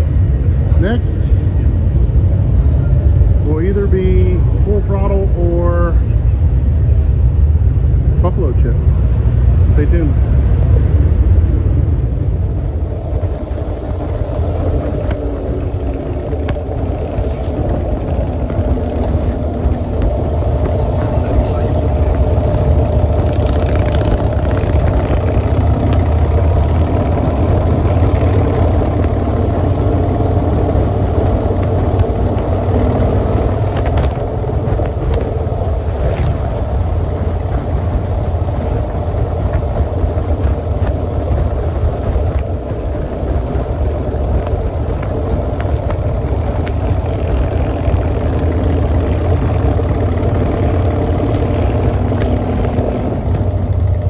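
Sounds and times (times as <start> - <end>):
motorcycle engine rumble: 0.0 - 54.0
wind and road noise: 0.0 - 54.0.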